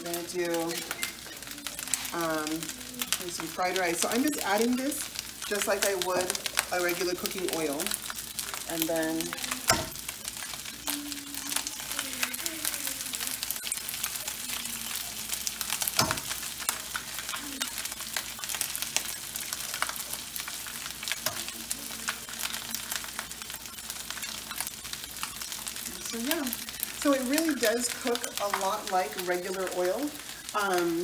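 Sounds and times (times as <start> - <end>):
eggs cracked on pan: 0.0 - 31.0
rice sizzling in a pan: 0.0 - 31.0.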